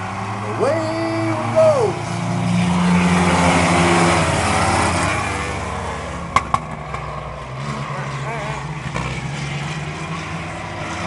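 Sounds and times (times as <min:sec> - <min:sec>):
race truck engines at full throttle: 0:00.0 - 0:11.0.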